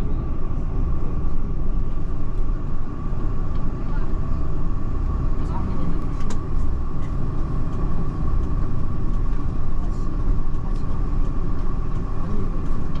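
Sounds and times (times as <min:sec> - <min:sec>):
road vehicle rumble from inside: 0:00.0 - 0:13.0.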